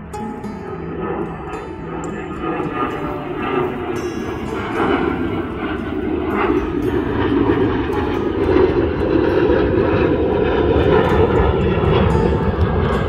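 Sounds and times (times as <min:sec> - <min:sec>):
jet airliner flying overhead: 0:00.0 - 0:13.0.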